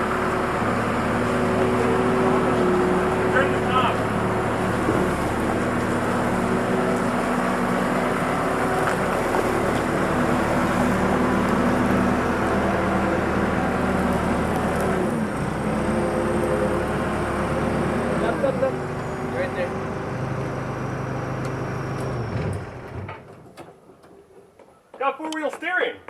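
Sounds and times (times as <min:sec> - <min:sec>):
forklift engine running: 0:00.0 - 0:23.4.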